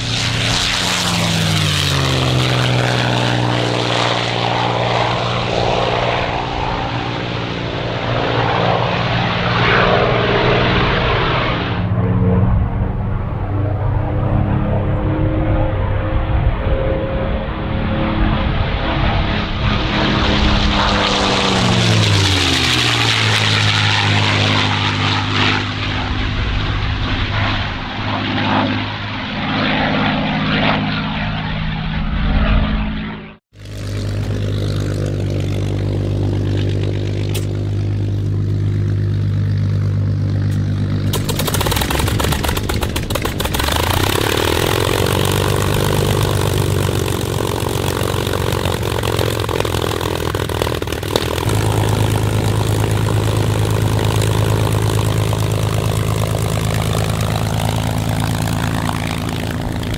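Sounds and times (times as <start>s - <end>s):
plane engine running on ground: 0.0s - 59.9s
propeller plane engine howling past: 0.0s - 59.9s.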